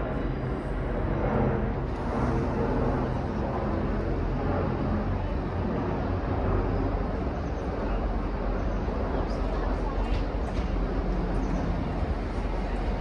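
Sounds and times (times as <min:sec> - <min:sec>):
train running low drone: 0:00.0 - 0:13.0.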